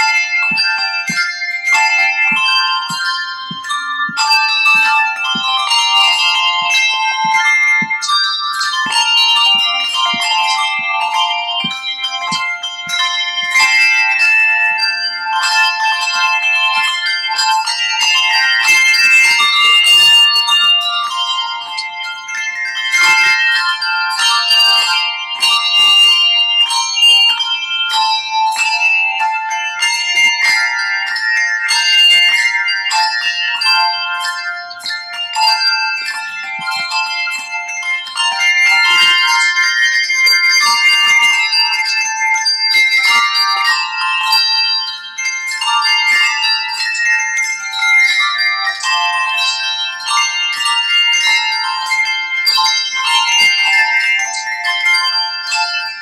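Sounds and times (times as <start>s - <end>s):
handbell choir playing: 0.0s - 56.0s.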